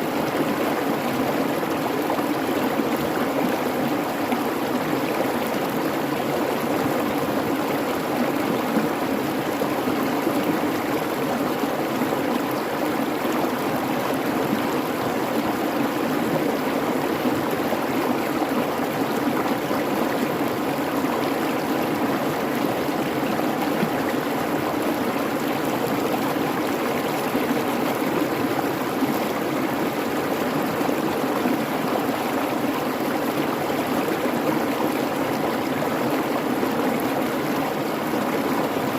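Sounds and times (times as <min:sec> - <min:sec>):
creek babbling: 0:00.0 - 0:38.9.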